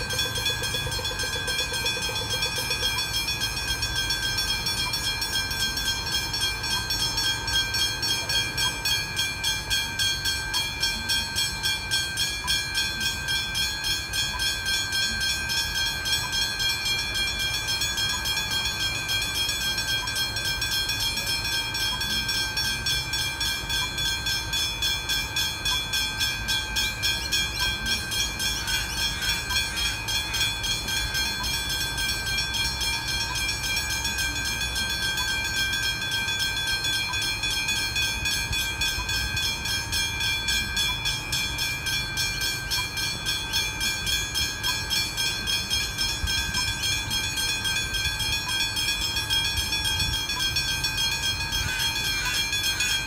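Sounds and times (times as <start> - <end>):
level crossing bell ringing: 0.0 - 53.0
road and engine rumble: 0.0 - 53.0.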